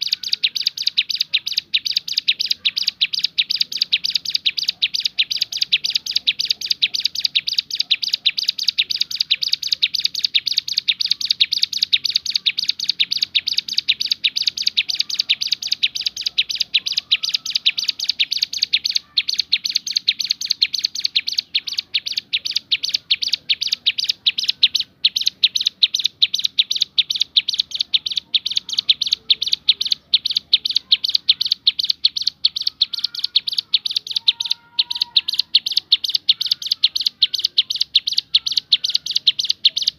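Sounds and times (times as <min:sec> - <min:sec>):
bird singing rapid high notes: 0:00.0 - 0:39.9.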